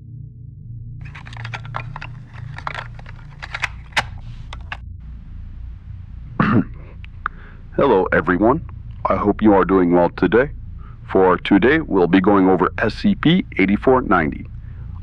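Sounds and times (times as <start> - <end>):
low ambient drone: 0.0 - 15.0
steady hiss: 1.0 - 15.0.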